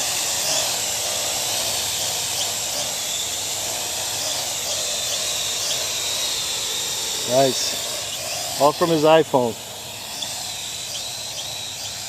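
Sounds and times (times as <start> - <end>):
drone rotors whining: 0.0 - 12.0.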